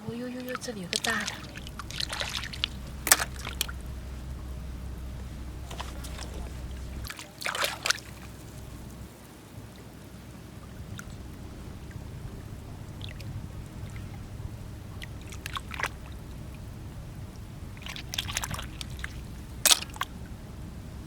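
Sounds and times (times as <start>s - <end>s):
low rumble of wind or surf: 0.0s - 21.0s
wet sand squishing: 0.1s - 9.2s, 10.7s - 20.4s.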